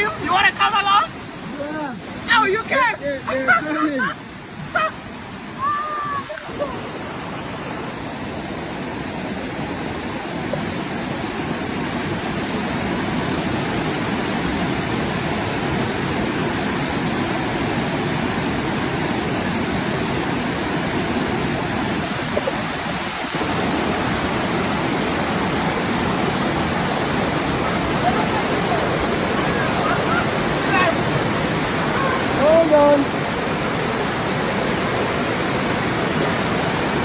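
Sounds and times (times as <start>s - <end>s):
waterfall rushing over rocks: 0.0s - 37.0s.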